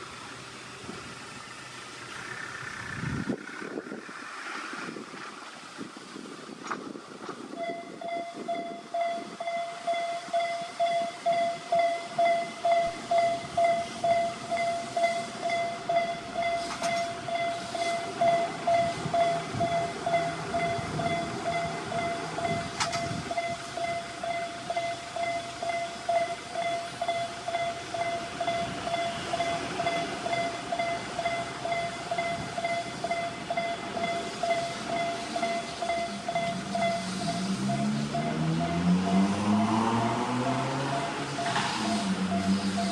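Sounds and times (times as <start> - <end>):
train running over rails: 0.0 - 42.9
level-crossing warning alarm: 7.5 - 42.9.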